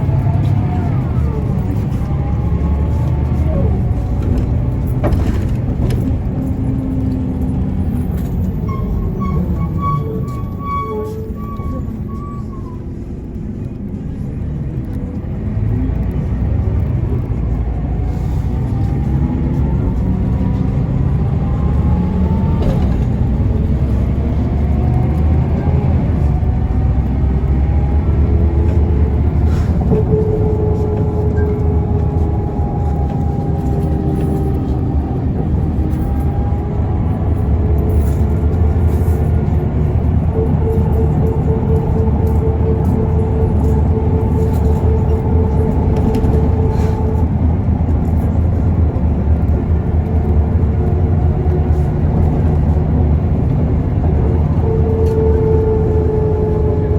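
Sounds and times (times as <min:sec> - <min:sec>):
bus engine and road rumble: 0:00.0 - 0:56.9.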